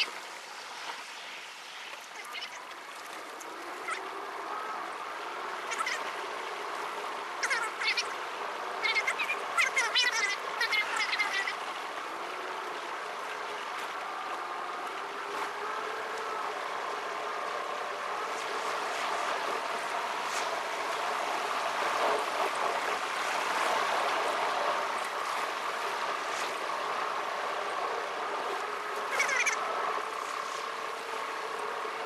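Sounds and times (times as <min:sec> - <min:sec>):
car interior road and engine noise: 0:00.0 - 0:32.0.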